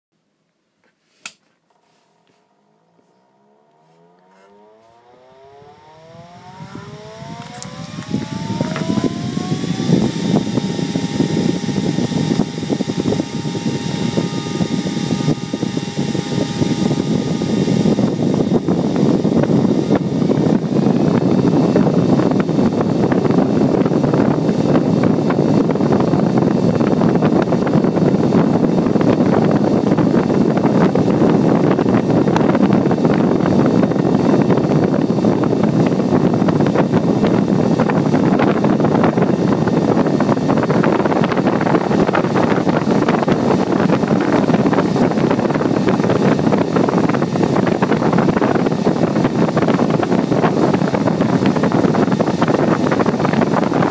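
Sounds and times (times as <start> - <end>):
cooling fans whining: 0.3 - 53.9
steady rush of air: 5.6 - 53.9.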